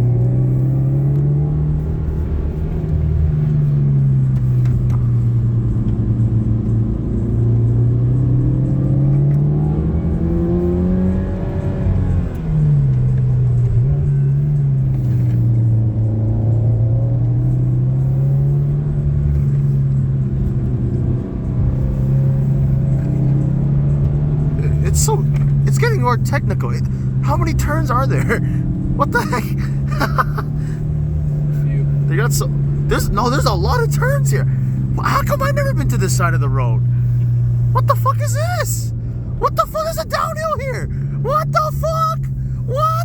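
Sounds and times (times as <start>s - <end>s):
car engine from inside cabin: 0.0s - 43.0s.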